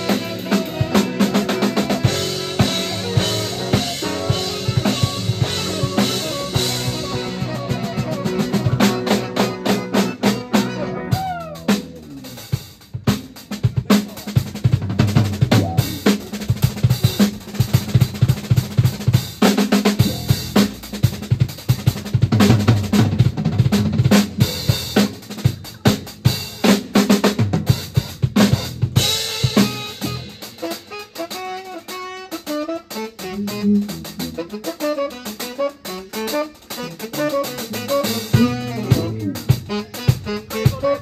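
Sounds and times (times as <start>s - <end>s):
bass guitar: 0.0s - 41.0s
drum kit: 0.0s - 41.0s.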